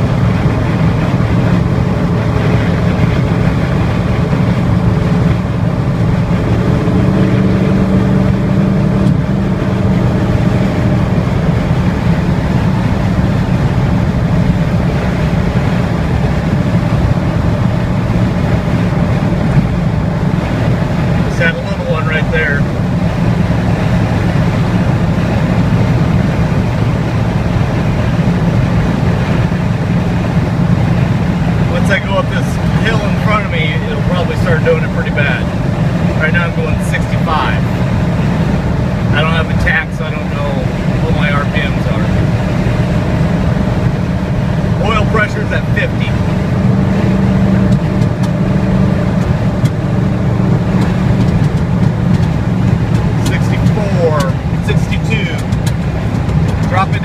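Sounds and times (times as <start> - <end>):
engine pulling with misfire stumbles: 0.0 - 57.0
road noise: 0.0 - 57.0.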